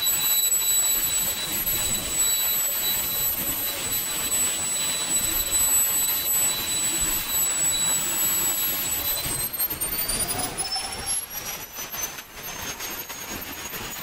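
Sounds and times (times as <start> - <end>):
jet turbine running with whine: 0.0 - 14.0.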